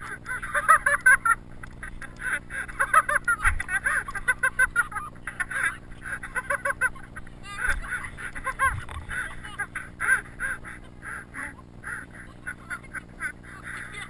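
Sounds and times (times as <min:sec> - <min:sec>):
person laughing hard: 0:00.0 - 0:14.0.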